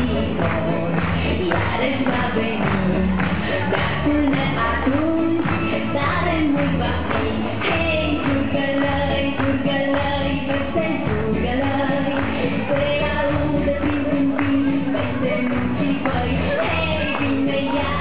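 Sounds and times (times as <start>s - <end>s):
pop song with singing: 0.0s - 18.0s.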